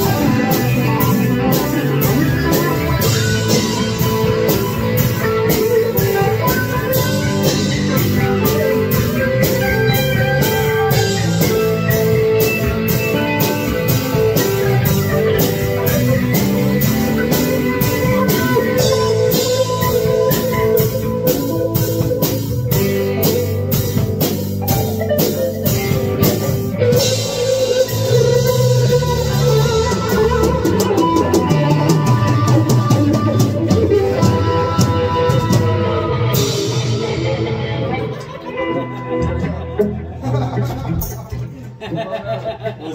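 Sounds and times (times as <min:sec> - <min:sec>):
electric guitars: 0:00.0 - 0:42.8.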